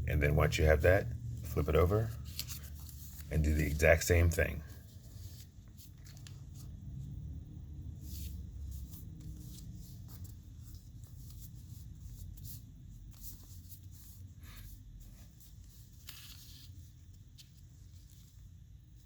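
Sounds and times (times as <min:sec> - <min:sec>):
low steady hum: 0:00.0 - 0:19.0
paper rustling and folding: 0:00.4 - 0:07.1, 0:07.8 - 0:19.0.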